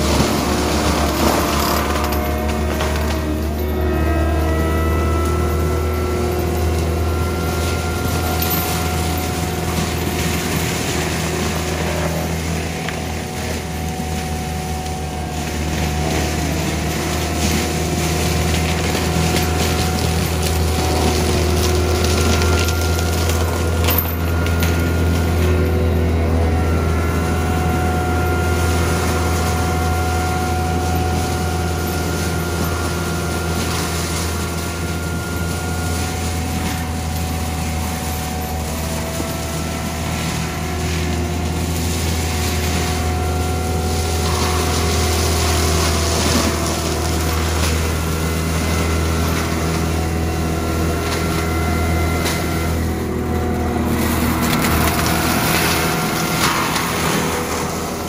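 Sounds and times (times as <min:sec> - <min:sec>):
diesel engine running hard: 0:00.0 - 0:58.0
mulcher head grinding brush: 0:00.0 - 0:58.0.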